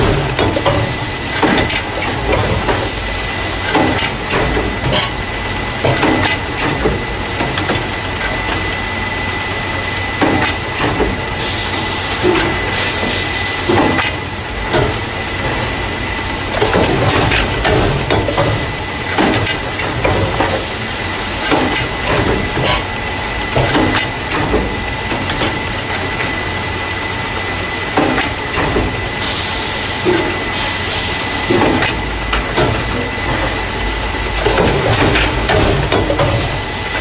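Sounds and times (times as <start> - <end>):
machine mechanism clacks: 0.0 - 26.6, 27.4 - 37.0
packing machine humming: 0.0 - 37.0.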